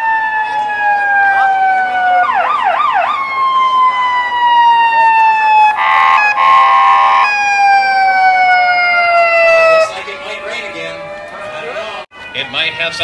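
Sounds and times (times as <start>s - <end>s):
ambulance siren wailing and yelping: 0.0s - 13.0s.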